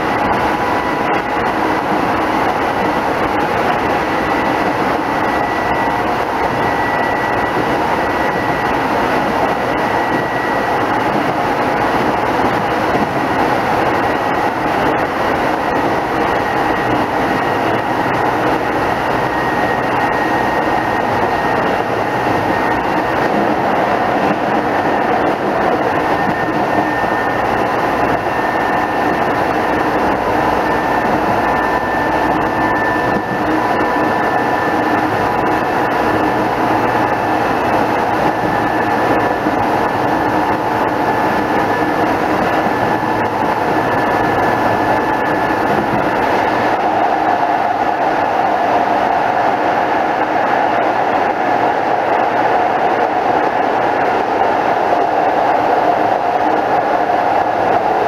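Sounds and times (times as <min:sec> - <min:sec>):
thin high whine: 0:00.0 - 0:58.0
train wheels rumbling on rails: 0:00.0 - 0:58.0.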